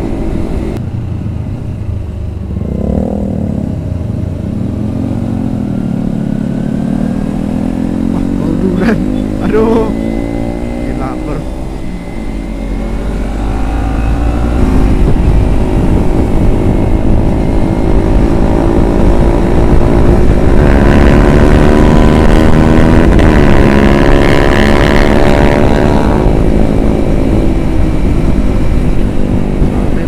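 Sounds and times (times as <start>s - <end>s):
motorcycle engine running: 0.0s - 30.0s
wind rushing on microphone: 0.0s - 30.0s.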